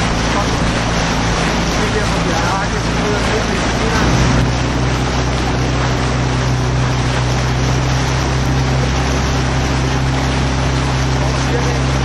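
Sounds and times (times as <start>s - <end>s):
motorboat engine drone: 0.0s - 12.0s
rushing water: 0.0s - 12.0s
wind: 0.0s - 12.0s.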